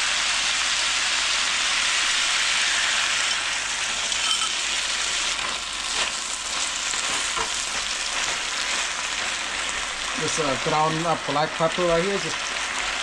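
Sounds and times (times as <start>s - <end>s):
stir-fry sizzling in a pan: 0.0s - 13.0s.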